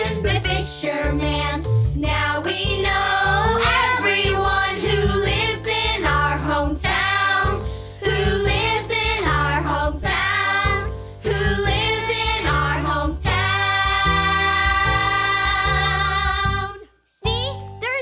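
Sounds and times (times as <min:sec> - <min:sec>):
instrumental backing music: 0:00.0 - 0:18.0
children singing: 0:02.4 - 0:16.8.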